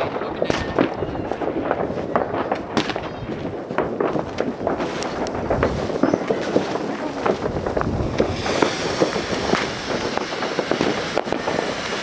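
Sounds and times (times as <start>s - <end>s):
distant fireworks crackling: 0.0s - 12.0s.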